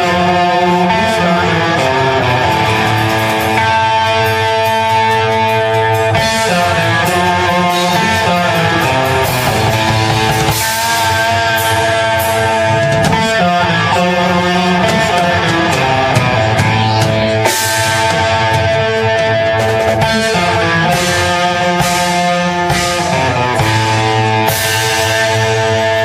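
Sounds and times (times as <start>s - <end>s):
live rock band with guitars: 0.0s - 26.0s.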